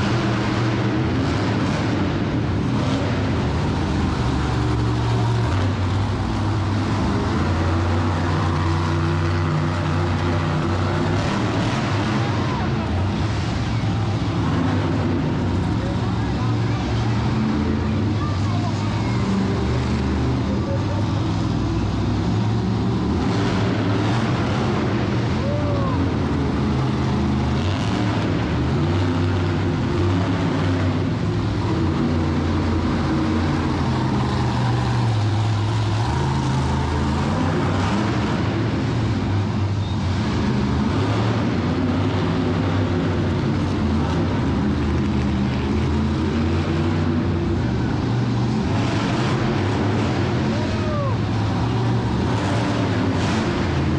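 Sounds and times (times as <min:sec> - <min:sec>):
truck engines revving: 0:00.0 - 0:53.9.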